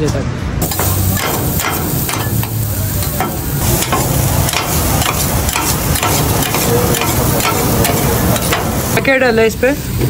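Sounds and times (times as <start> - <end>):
food sizzling in a pan: 0.6 - 10.0.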